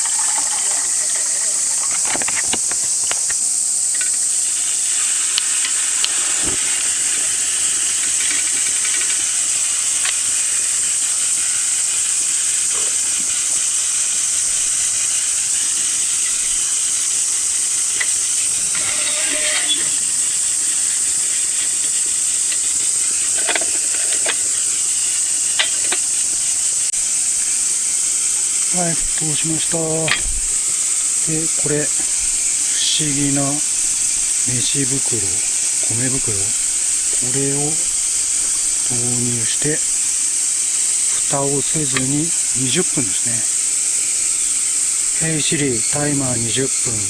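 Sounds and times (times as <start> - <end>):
cicada chorus: 0.0 - 47.0.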